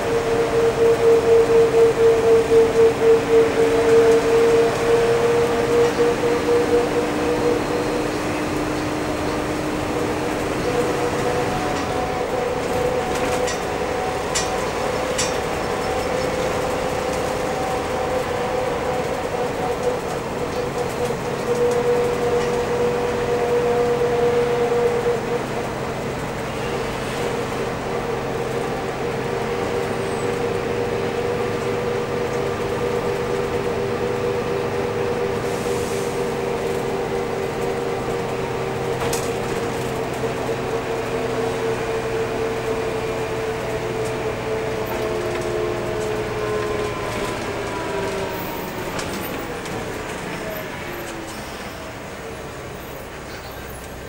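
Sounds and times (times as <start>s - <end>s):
diesel bus engine whining: 0.0s - 54.0s
road noise: 0.0s - 54.0s.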